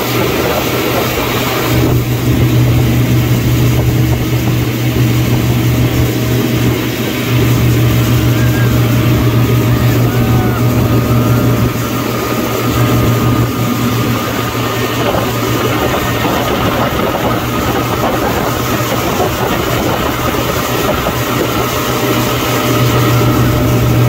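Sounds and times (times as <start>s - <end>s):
motorboat engine humming: 0.0s - 24.0s
water rushing from wake: 0.0s - 24.0s.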